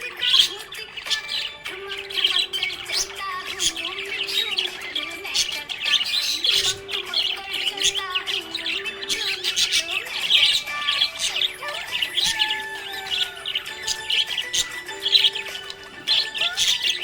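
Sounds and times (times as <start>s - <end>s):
budgerigars chirping: 0.0s - 17.0s
song melody playing: 1.5s - 17.0s.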